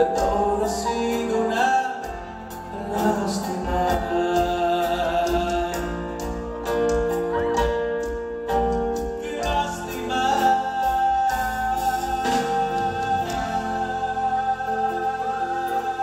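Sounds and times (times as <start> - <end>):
person singing: 0.0 - 7.3, 9.0 - 16.0
live band music: 0.0 - 16.0
steady bass line: 2.0 - 16.0.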